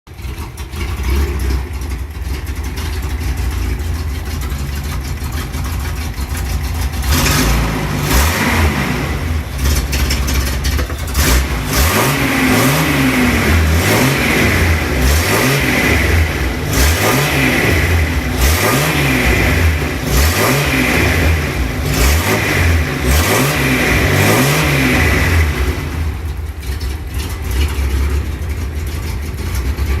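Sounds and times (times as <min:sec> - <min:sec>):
car engine idling and revving: 0:00.1 - 0:30.0.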